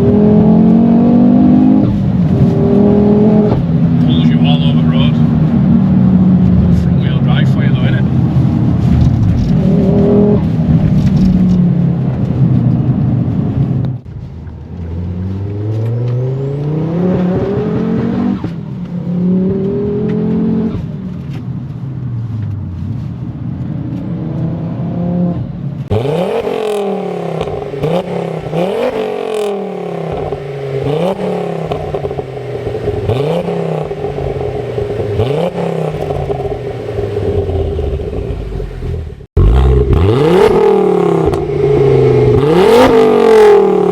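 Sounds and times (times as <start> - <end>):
turbocharged car engine accelerating: 0.0 - 14.1, 14.7 - 21.0, 23.8 - 43.9.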